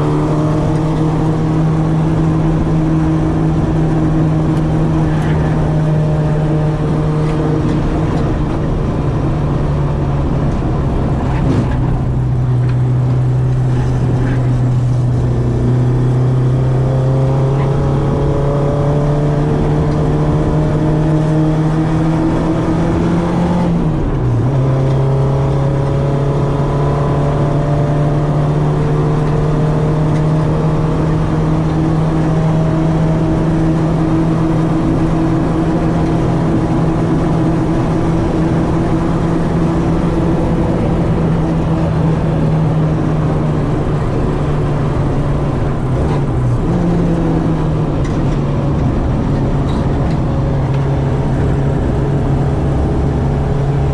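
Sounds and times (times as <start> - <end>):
gear change: 0.0 - 23.0, 28.8 - 53.9
car engine running hard: 0.0 - 53.9.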